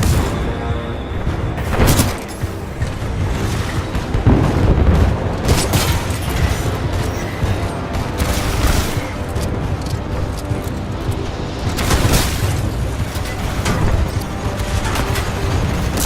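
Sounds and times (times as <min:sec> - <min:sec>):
loud bangs: 0:00.0 - 0:16.0
video game music: 0:00.0 - 0:16.0
gunfire bursts: 0:01.5 - 0:16.0.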